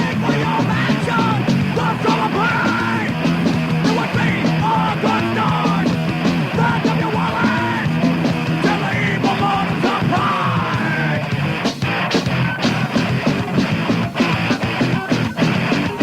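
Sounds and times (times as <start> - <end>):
shouted vocals: 0.0 - 11.4, 12.4 - 16.0
thrash metal band playing: 0.0 - 16.0.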